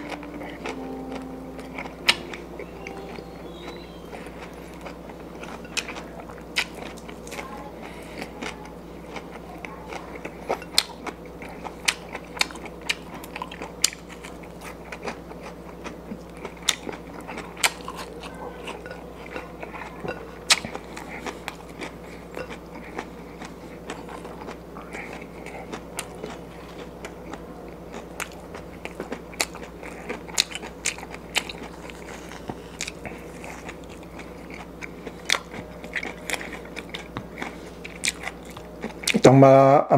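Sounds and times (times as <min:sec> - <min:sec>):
person chewing crunchy food: 0:00.0 - 0:39.4
faint steady hum: 0:00.0 - 0:39.9.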